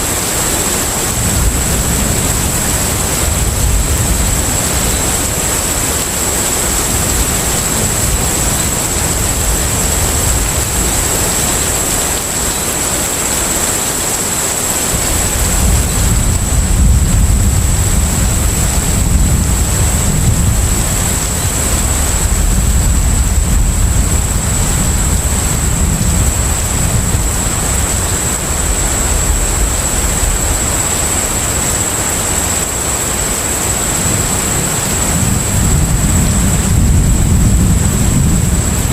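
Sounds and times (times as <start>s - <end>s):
rushing water: 0.0s - 38.9s
ship engine rumble: 0.0s - 38.9s
wind noise: 0.0s - 38.9s.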